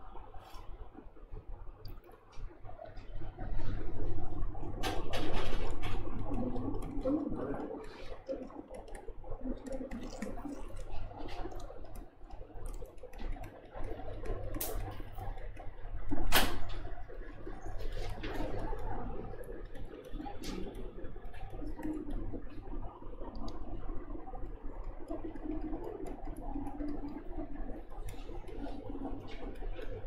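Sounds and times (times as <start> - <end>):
low electrical hum: 0.0 - 30.0
rustling and small clicks: 4.6 - 30.0.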